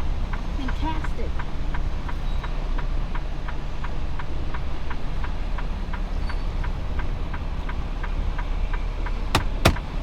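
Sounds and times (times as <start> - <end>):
light ticking: 0.0 - 10.0
truck engine rumbling: 0.0 - 10.0.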